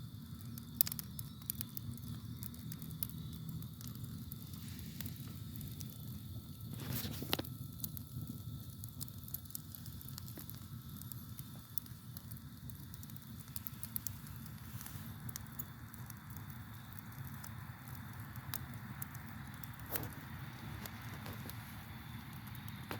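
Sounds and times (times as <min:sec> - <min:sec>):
campfire crackling and popping: 0:00.0 - 0:22.9
crickets chirping: 0:00.0 - 0:22.9.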